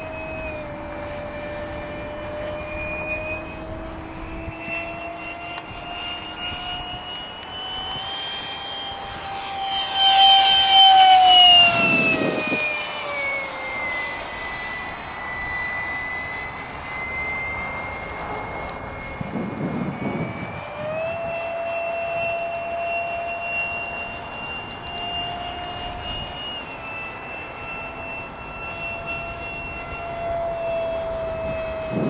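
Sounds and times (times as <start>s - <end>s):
electric jet fan whining: 0.0s - 32.0s.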